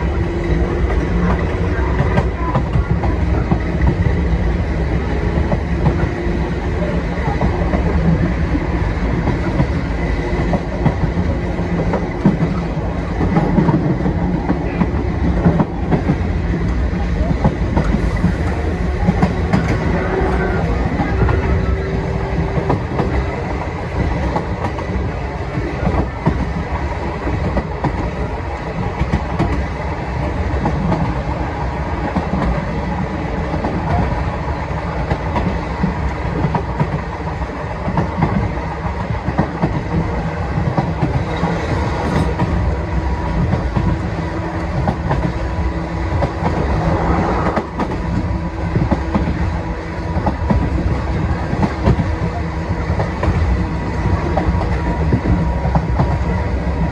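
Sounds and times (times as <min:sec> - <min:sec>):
clickety-clack over rail joints: 0:00.0 - 0:56.9
train wheels rumbling on track: 0:00.0 - 0:56.9.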